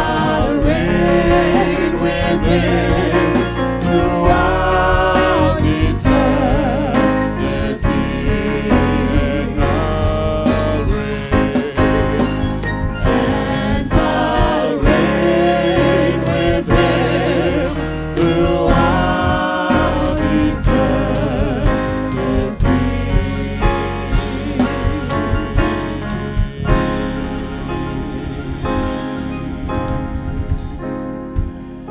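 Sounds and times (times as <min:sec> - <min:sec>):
bass guitar: 0:00.0 - 0:31.9
keyboard: 0:00.0 - 0:31.9
people singing worship song: 0:00.0 - 0:31.9
steady drum beat: 0:00.0 - 0:31.9.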